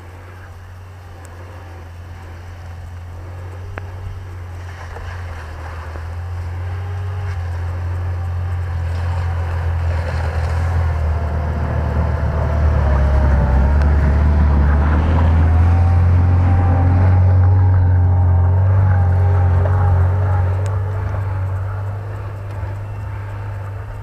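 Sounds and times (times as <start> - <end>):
suv engine approaching: 0.0 - 24.0.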